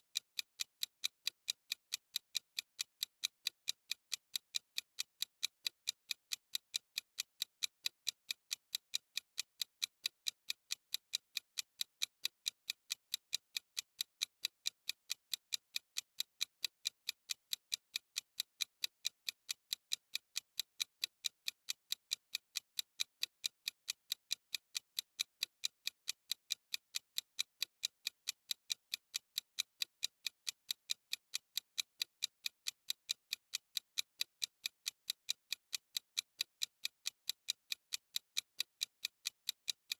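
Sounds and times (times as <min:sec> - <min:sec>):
clock ticking: 0:00.1 - 0:39.9.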